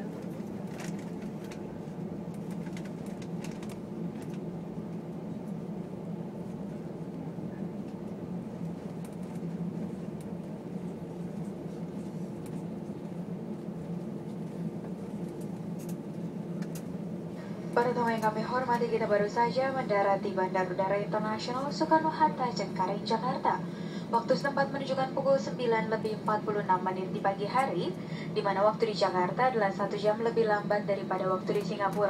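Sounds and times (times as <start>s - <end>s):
airliner cabin engine hum: 0.0s - 32.0s.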